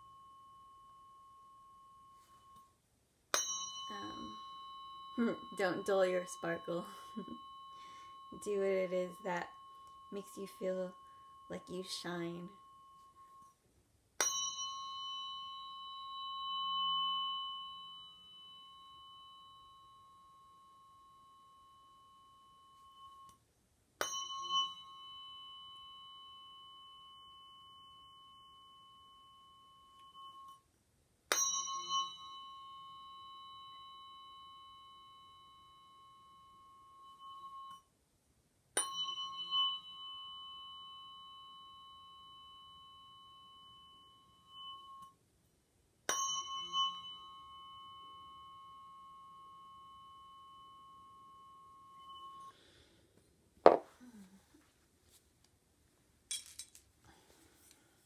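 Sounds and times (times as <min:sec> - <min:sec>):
tuning fork ringing: 0:00.0 - 0:38.0, 0:38.7 - 0:45.3, 0:45.9 - 0:54.7.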